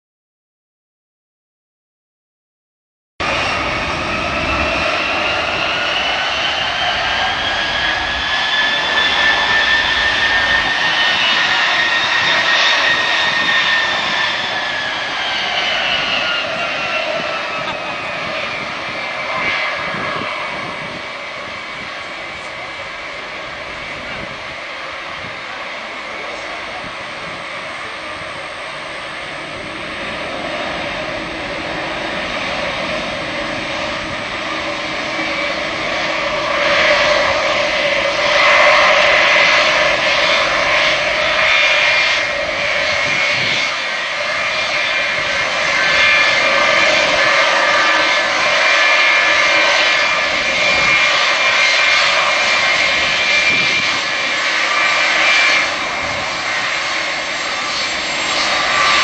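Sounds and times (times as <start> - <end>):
jet engines taxiing with whine: 3.2 - 59.0.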